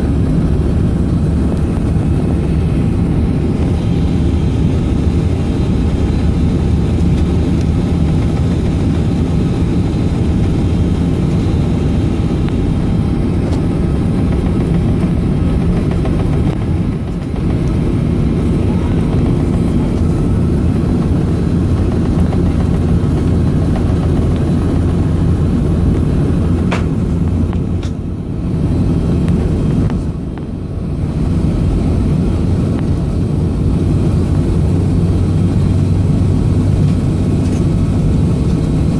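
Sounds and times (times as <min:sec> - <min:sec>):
jet engines humming in cabin: 0:00.0 - 0:38.9.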